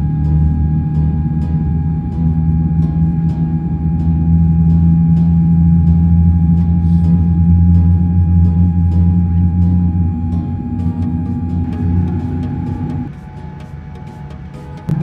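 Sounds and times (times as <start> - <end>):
aircraft cabin rumble: 0.0 - 13.1
steady whine: 0.0 - 15.0.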